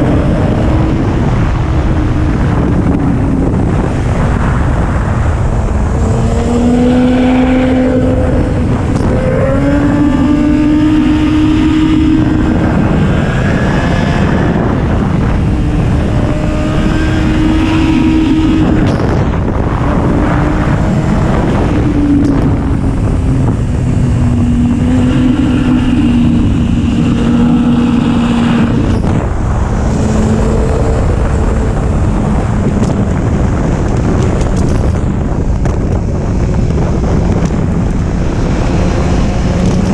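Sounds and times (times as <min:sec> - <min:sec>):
motorcycle engine running hard: 0:00.0 - 0:39.9
wind rush on microphone: 0:00.0 - 0:39.9.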